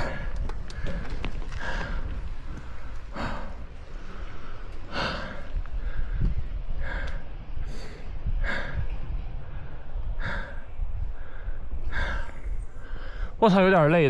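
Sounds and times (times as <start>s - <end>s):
person breathing hard: 0.0s - 13.4s
steady low rumble: 0.0s - 14.0s.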